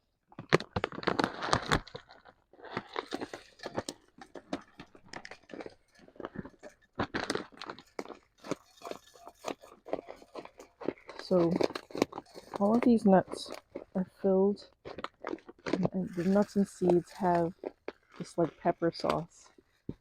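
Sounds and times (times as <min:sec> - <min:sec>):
bag crinkling: 0:00.3 - 0:14.0, 0:14.6 - 0:18.6
nuts and seeds rattling: 0:00.6 - 0:19.6.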